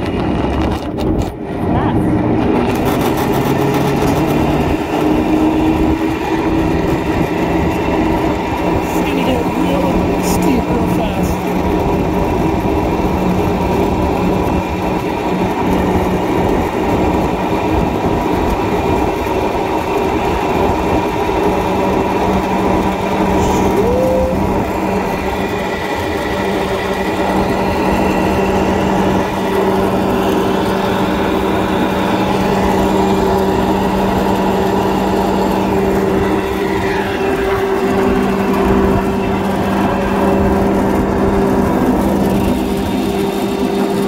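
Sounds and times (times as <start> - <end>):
pulley wheels rolling on cable: 2.6 - 44.0.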